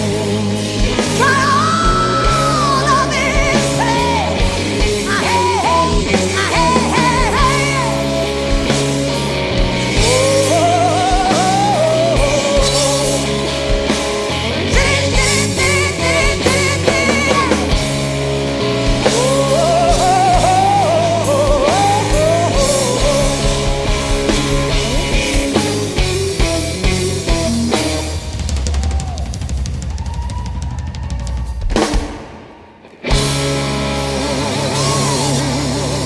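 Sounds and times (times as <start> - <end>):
slow blues-rock song: 0.0 - 29.2, 31.8 - 36.0.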